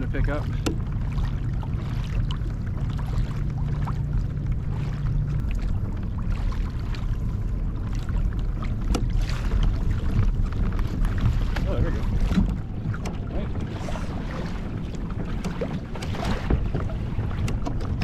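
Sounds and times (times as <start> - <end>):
low rumble: 0.0 - 18.0
water splashing against hull: 0.0 - 18.0.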